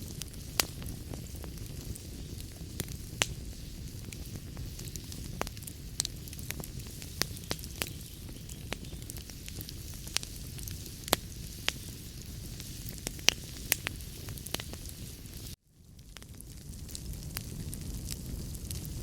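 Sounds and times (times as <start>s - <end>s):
fire crackling and popping: 0.0s - 19.0s
wood fire rumbling and hissing: 0.0s - 19.0s.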